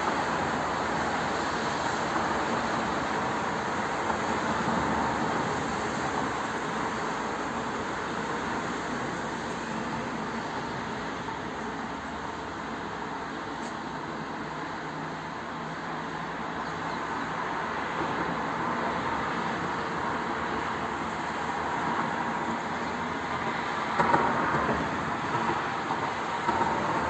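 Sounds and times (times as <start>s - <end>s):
road noise: 0.0s - 27.0s.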